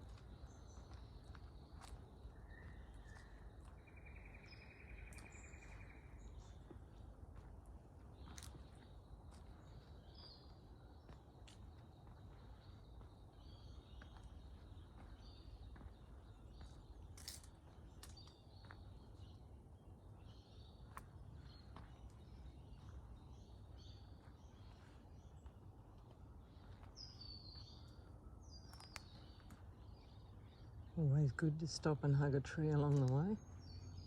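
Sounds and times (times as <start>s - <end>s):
faint birdsong chirps: 0.0s - 34.0s.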